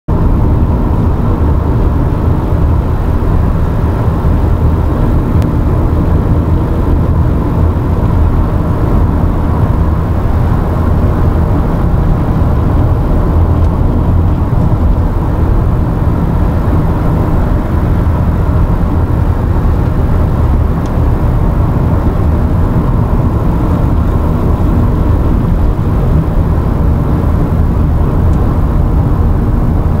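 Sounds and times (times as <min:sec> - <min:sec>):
car road and engine noise: 0:00.1 - 0:30.0.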